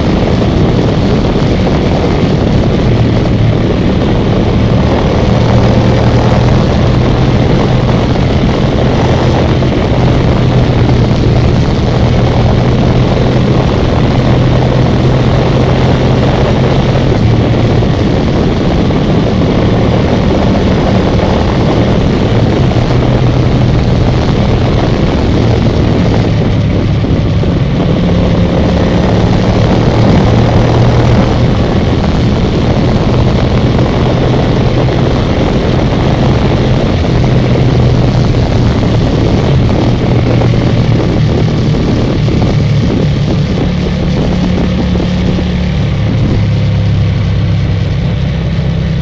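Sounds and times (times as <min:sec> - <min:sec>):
motorcycle engine cruising: 0:00.0 - 0:49.0
wind rush on microphone: 0:00.0 - 0:49.0.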